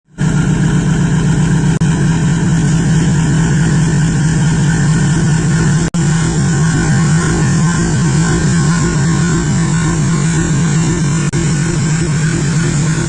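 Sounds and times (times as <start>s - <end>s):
diesel locomotive engine droning: 0.0s - 13.0s.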